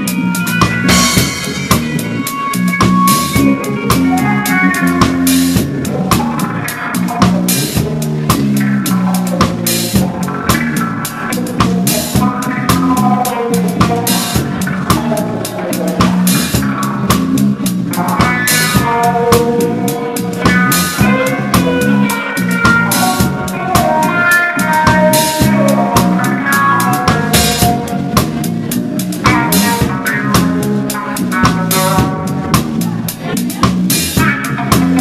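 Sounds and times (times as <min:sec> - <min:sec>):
drum kit and cymbals: 0:00.0 - 0:35.0
reggae band playing: 0:00.0 - 0:35.0.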